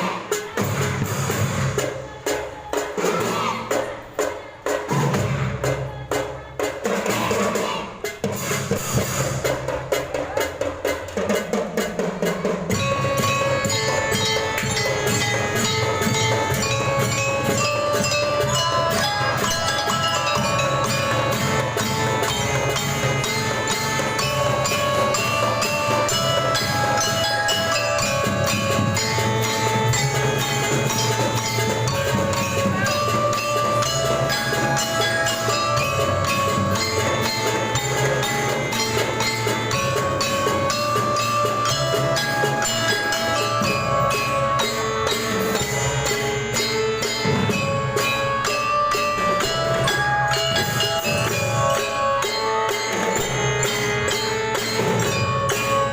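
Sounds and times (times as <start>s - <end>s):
drums beating steady rhythm: 0.0s - 55.9s
mallet bells melody: 8.2s - 55.9s.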